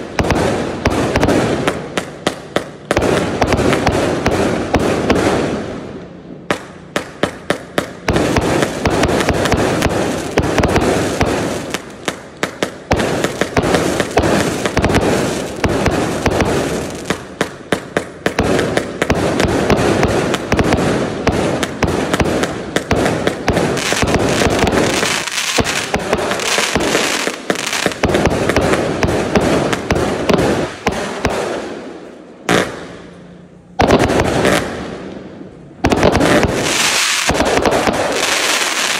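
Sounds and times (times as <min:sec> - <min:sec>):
fireworks launch pops and bursts: 0:00.0 - 0:05.8, 0:06.5 - 0:31.7, 0:32.4 - 0:33.1, 0:33.8 - 0:35.2, 0:35.8 - 0:38.9.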